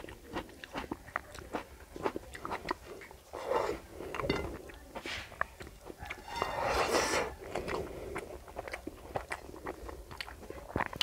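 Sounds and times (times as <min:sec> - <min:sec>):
close chewing with mouth smacks: 0:00.0 - 0:11.0.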